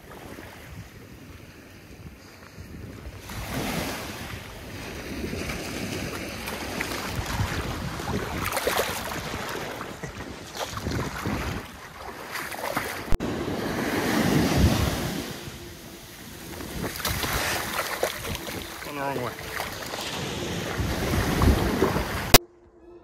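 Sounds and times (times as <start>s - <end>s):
small waves washing on sand: 0.0s - 22.4s
wind buffeting microphone: 0.0s - 22.4s
water sloshing: 3.2s - 22.4s.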